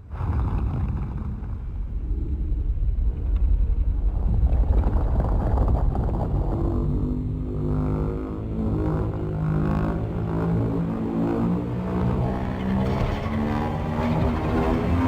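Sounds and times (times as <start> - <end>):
deep dense monster rumble: 0.0 - 15.0.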